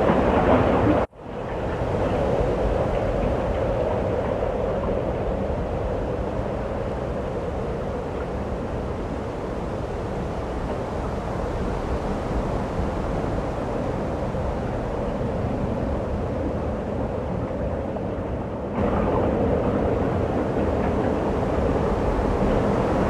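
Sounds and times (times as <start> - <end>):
snowstorm wind: 0.0 - 23.0.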